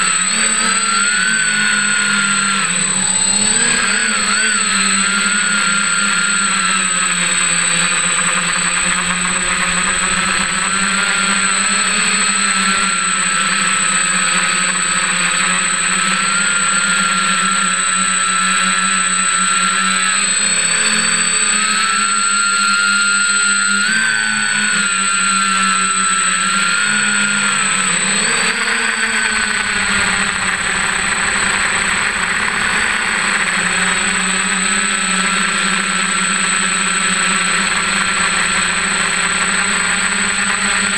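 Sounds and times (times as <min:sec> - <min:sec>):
drone motors whining: 0:00.0 - 0:20.2, 0:21.3 - 0:40.9.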